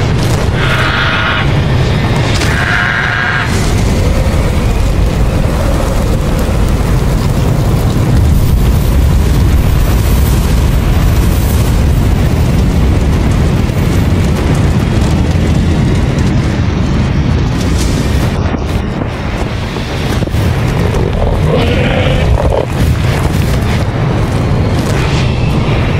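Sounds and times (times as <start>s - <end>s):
fire hissing: 0.0s - 25.9s
low rumble: 0.0s - 25.9s.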